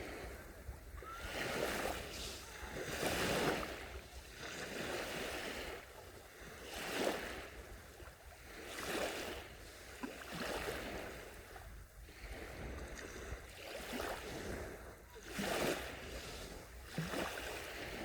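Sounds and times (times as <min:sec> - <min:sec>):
small waves washing onto beach: 0:00.0 - 0:18.0.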